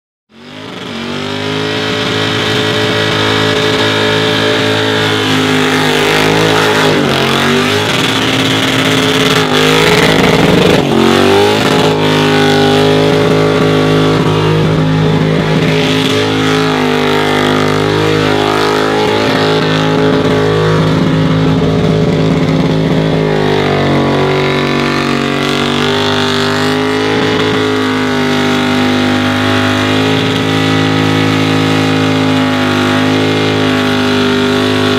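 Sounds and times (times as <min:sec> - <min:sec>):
car engine at high revs: 0:00.3 - 0:34.9.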